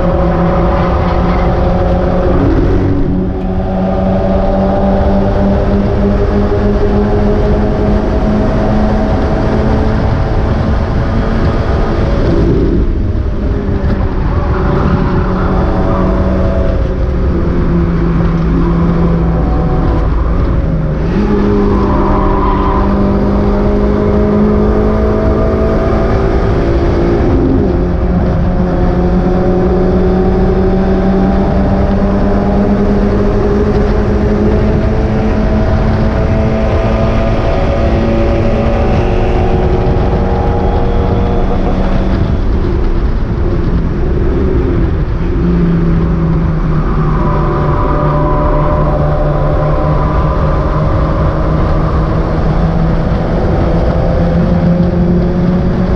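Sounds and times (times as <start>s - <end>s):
race car engine running hard: 0.0s - 55.9s
road and wind noise: 0.0s - 55.9s.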